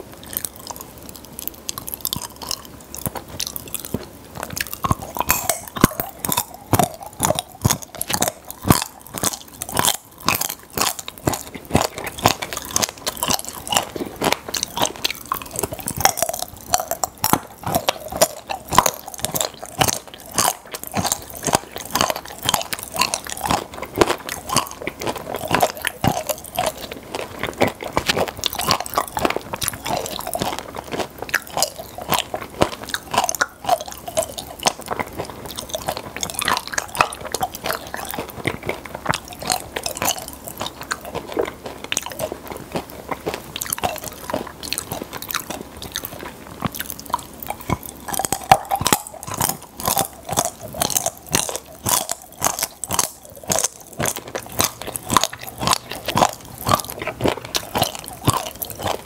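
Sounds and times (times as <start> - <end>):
chewing and crunching candy: 0.0 - 59.0
small crackles and clicks: 0.0 - 59.0.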